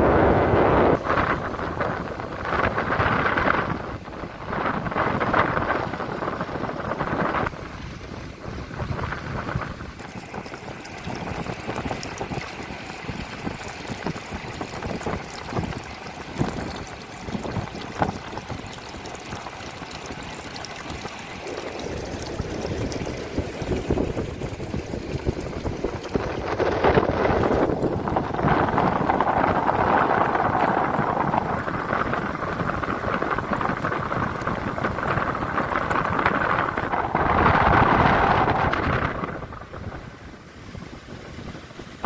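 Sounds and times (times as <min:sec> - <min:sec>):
sea waves: 0:00.0 - 0:42.0
wind buffeting microphone: 0:00.0 - 0:42.0.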